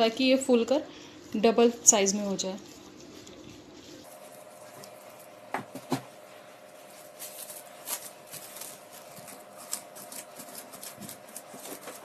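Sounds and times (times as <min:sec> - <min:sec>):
dough crackling: 0:00.0 - 0:12.0.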